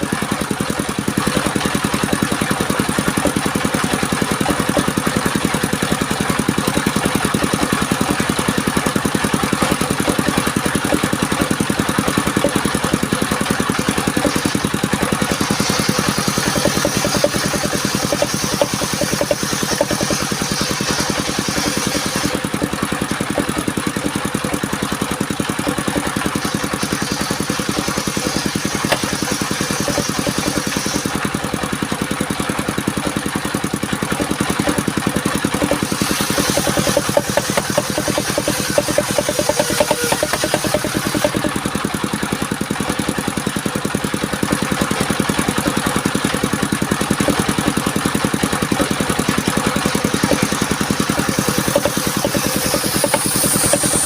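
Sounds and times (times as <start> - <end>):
circular saw blade cutting log: 0.0 - 54.0
sawmill engine running: 0.0 - 54.0.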